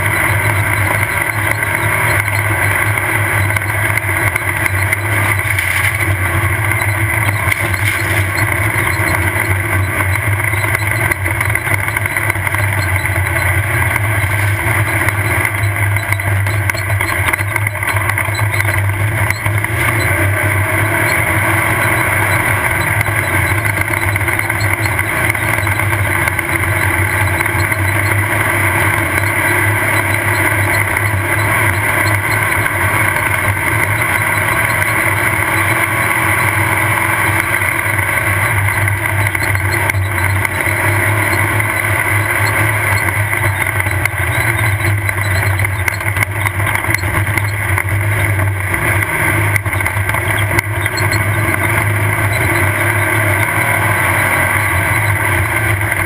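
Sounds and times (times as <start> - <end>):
race car engine drone: 0.0 - 56.0
road noise: 0.0 - 56.0.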